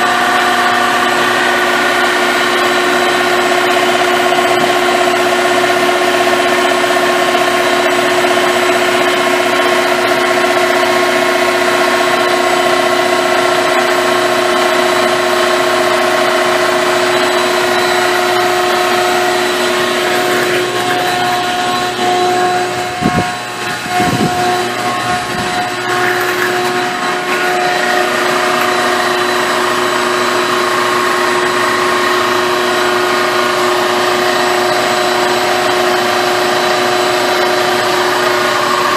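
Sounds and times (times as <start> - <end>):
car engine idling: 0.0 - 37.0
whining tones: 0.0 - 38.9.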